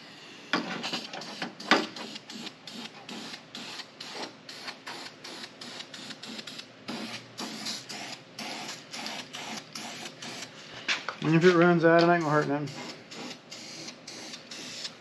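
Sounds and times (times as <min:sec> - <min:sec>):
aerosol spray bursts: 0:00.9 - 0:10.5, 0:12.2 - 0:15.0.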